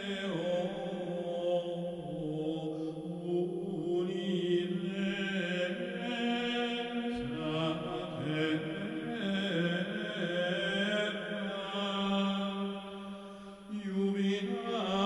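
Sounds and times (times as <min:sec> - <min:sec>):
choral chant: 0:00.0 - 0:15.0.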